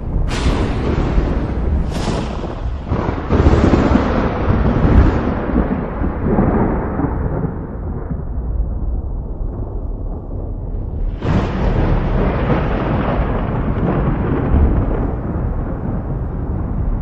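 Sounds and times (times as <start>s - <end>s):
thunder clap and rumble: 0.0s - 17.0s.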